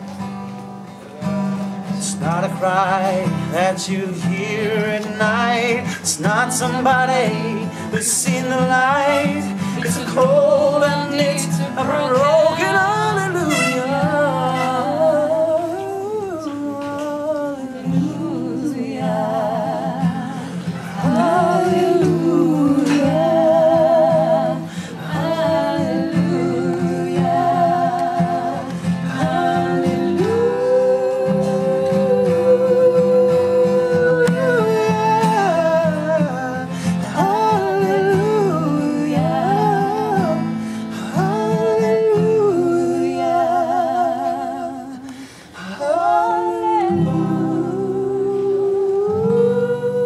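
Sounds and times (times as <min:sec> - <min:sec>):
acoustic guitar chords: 0:00.0 - 0:50.0
man singing with vibrato: 0:01.8 - 0:50.0.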